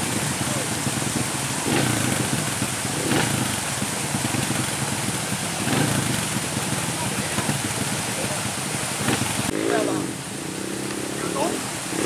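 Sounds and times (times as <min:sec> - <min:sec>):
motorbike engines running: 0:00.0 - 0:12.0
rain hissing: 0:00.0 - 0:12.0.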